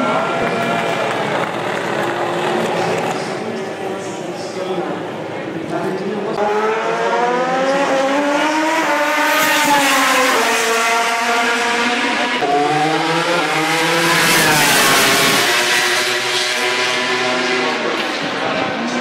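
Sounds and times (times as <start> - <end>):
racing motorcycle engines accelerating: 0.0 - 19.0.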